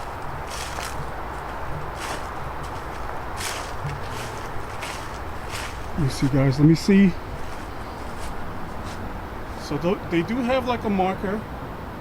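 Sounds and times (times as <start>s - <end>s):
footsteps on a trail: 0.0s - 9.8s.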